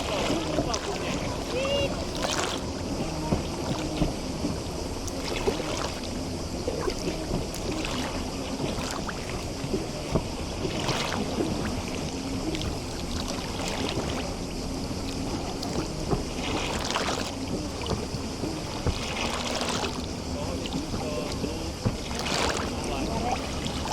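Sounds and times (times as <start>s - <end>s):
faint low hum: 0.0s - 23.9s
seawater lapping against shore: 0.0s - 23.9s.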